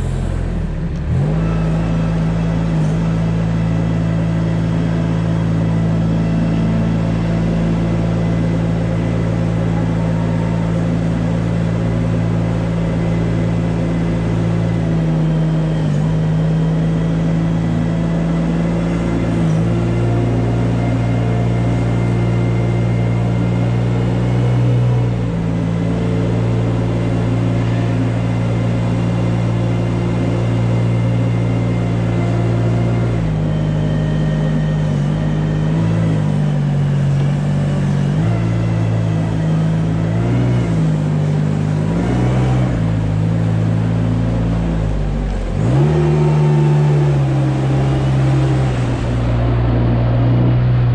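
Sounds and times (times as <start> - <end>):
loader engine running: 0.0 - 50.9.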